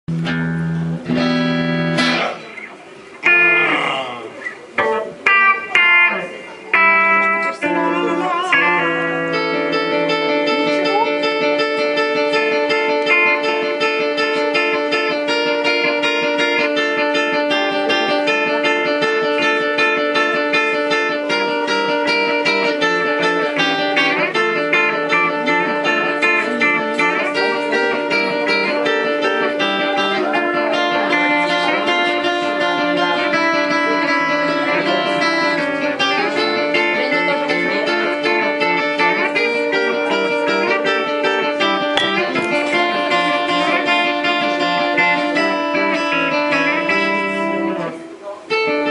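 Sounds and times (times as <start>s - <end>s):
guitar picking quick notes: 0.1s - 48.9s.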